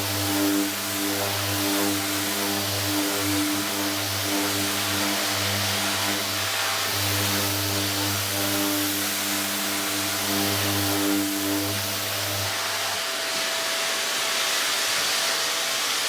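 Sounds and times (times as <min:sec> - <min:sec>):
power sander humming: 0:00.0 - 0:16.0.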